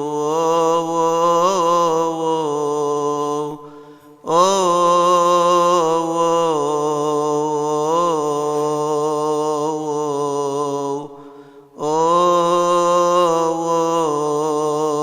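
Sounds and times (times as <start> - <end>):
man chanting a hymn: 0.0 - 15.0.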